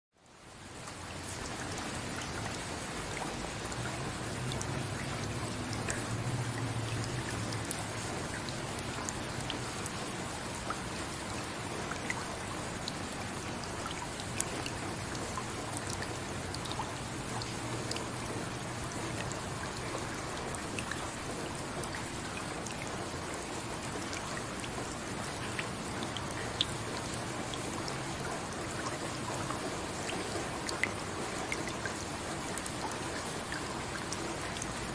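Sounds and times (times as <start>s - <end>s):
steady rain patter: 0.1s - 34.9s.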